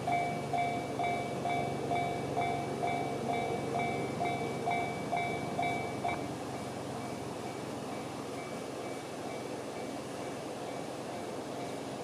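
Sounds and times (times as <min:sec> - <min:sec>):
level-crossing warning bell dinging: 0:00.0 - 0:12.0.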